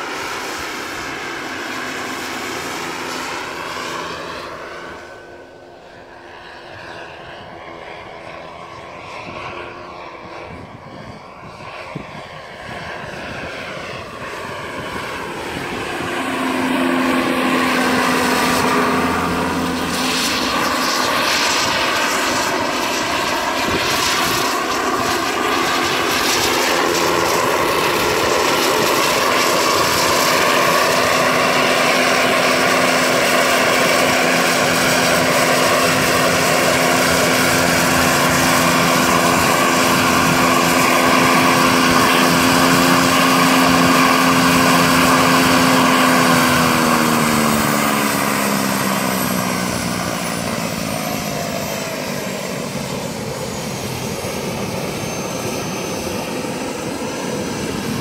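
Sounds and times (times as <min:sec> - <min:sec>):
model helicopter turbine whine: 0:00.0 - 0:58.0.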